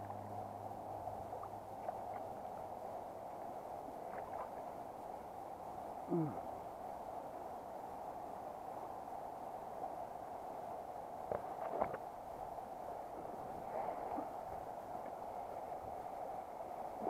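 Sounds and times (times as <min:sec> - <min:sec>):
river water running over stones: 0:00.0 - 0:17.0.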